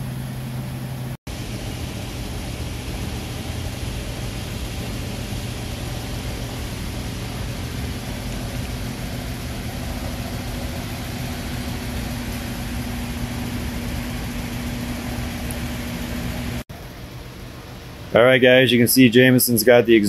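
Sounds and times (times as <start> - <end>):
steady mechanical hum with hiss: 0.0 - 20.0.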